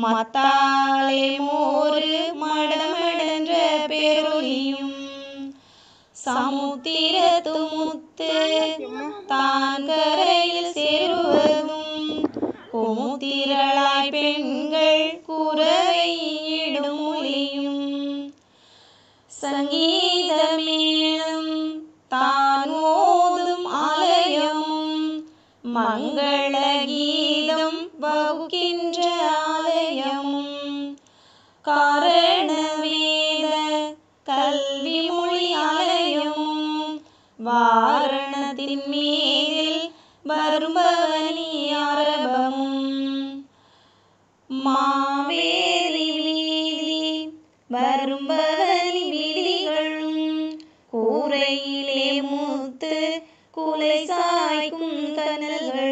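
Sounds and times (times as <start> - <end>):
woman singing unaccompanied: 0.0 - 5.6, 6.2 - 18.4, 19.3 - 43.5, 44.5 - 55.9.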